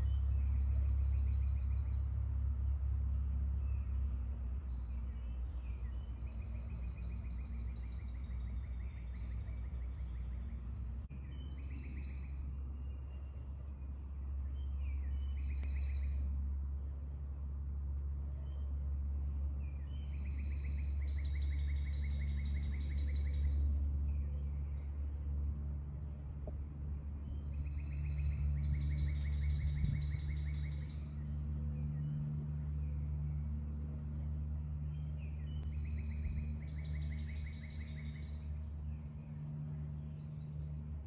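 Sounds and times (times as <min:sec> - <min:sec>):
low rumble: 0:00.0 - 0:41.0
songbird singing a trill: 0:00.0 - 0:41.0.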